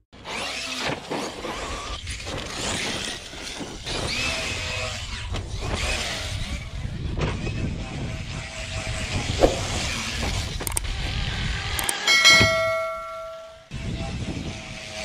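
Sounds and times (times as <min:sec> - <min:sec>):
tyre and wind noise: 0:00.3 - 0:15.0.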